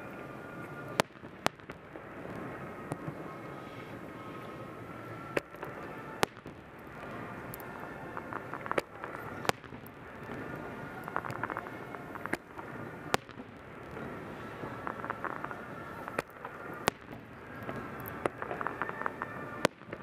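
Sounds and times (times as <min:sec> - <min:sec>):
fireworks crackling: 0:00.0 - 0:20.0
firework shells bursting: 0:00.9 - 0:20.0.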